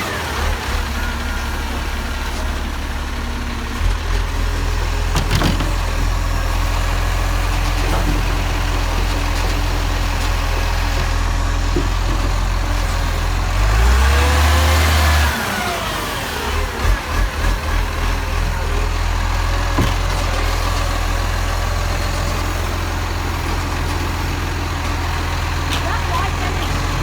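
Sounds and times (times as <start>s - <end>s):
garbage truck engine running: 0.0s - 27.0s.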